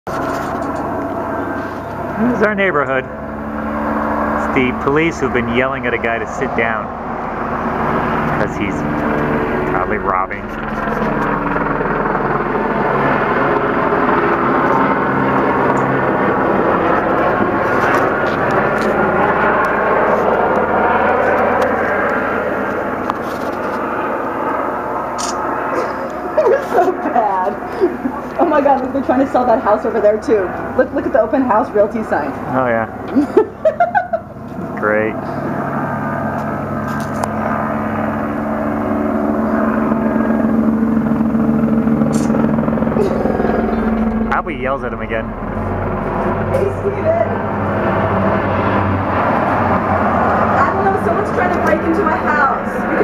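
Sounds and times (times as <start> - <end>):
helicopter flying overhead: 0.1 - 53.0.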